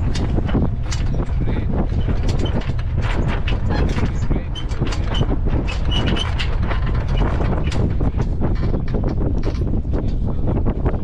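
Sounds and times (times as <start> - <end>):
clicks and knocks: 0.0 - 10.2
low rumble of sailing yacht: 0.0 - 11.0.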